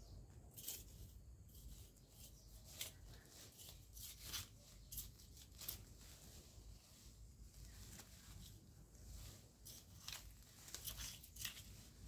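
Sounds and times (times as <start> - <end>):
leaves rustling: 0.5 - 12.0.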